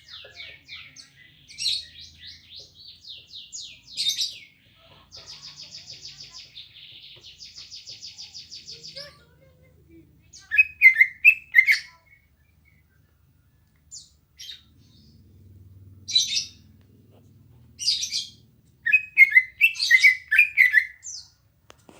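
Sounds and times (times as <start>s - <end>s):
bird chirping and warbling: 0.0s - 9.6s, 10.2s - 13.0s, 13.9s - 16.8s, 17.7s - 21.4s.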